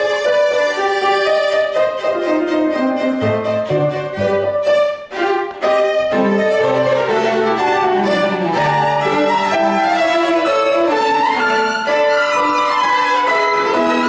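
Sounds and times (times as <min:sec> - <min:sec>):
piano quartet chamber music: 0:00.0 - 0:14.0.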